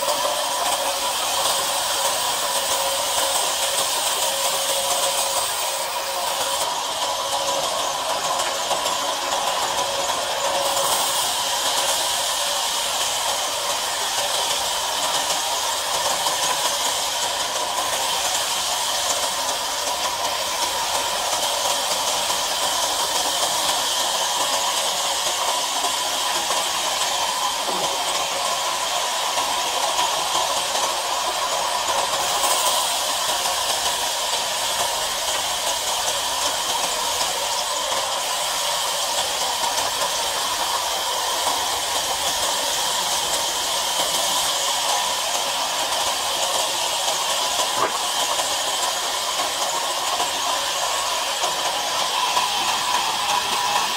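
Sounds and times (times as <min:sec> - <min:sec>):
band saw cutting timber: 0:00.0 - 0:53.9.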